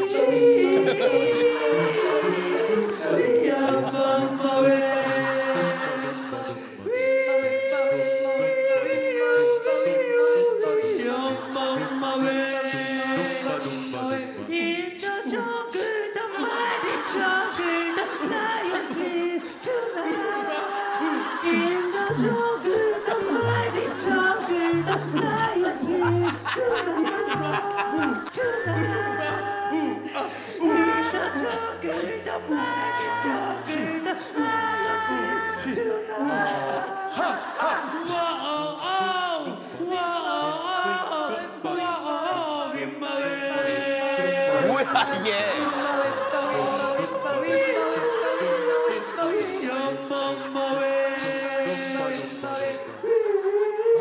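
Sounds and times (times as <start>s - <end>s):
group singing a cappella: 0.0s - 54.0s.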